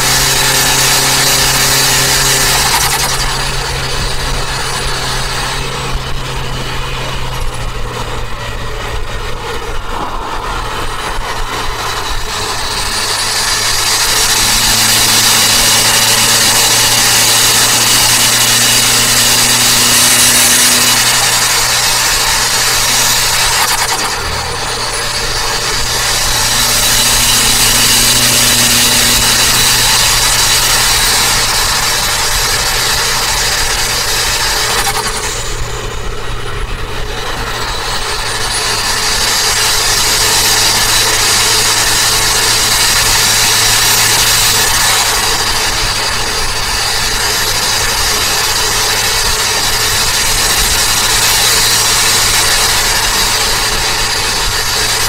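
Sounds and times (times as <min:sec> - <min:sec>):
car engine drone from inside cabin: 0:00.0 - 0:55.0
high whine climbing in pitch: 0:00.0 - 0:55.0.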